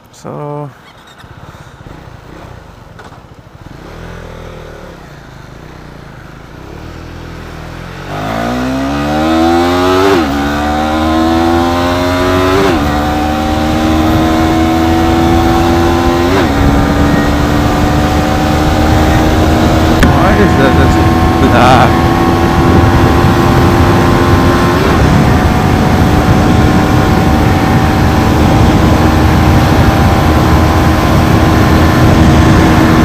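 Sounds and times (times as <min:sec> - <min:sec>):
motorcycle engine accelerating: 0:00.9 - 0:33.0.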